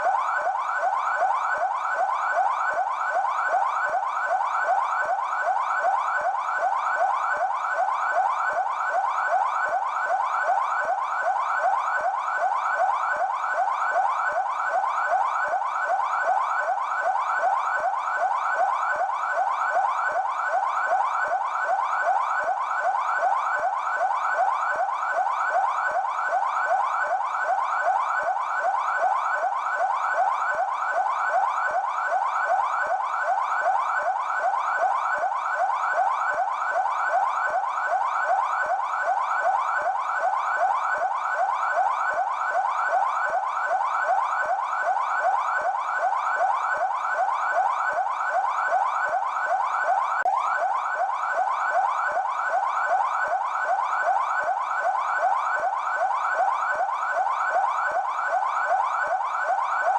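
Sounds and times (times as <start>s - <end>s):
police siren yelping: 0.0s - 59.9s.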